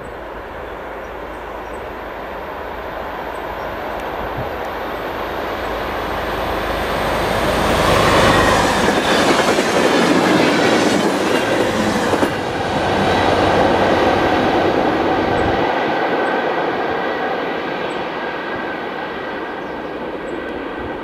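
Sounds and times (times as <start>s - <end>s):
diesel train engine: 0.0s - 21.0s
train wheels on rails: 0.0s - 21.0s.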